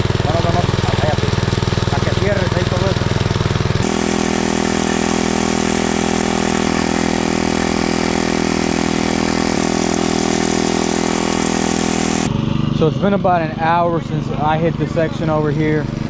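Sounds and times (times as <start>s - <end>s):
small gasoline engine running: 0.0s - 13.6s, 15.4s - 16.0s.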